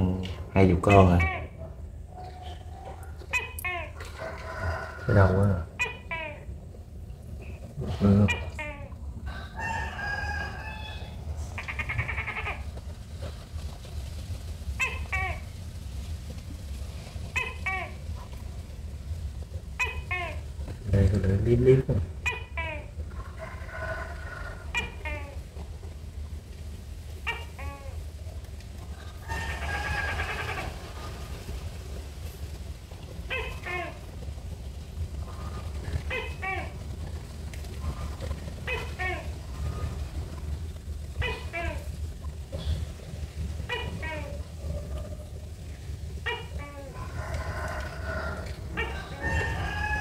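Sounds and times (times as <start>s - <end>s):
animal calls: 0.0s - 50.0s.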